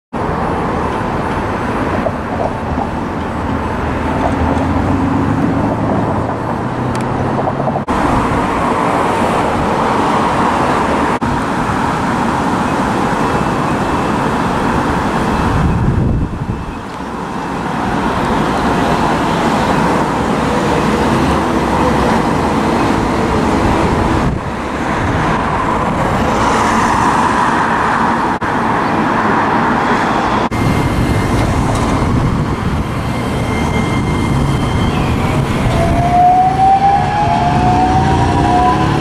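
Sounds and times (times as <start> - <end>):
road traffic: 0.1 - 39.0
trams rumbling on tracks: 0.1 - 39.0.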